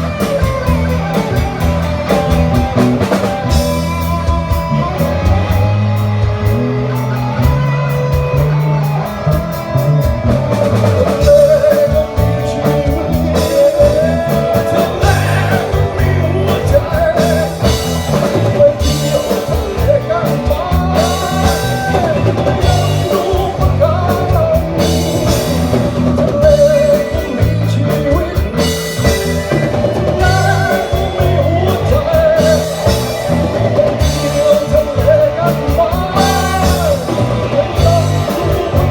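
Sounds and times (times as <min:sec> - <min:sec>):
rock band music: 0:00.0 - 0:38.9.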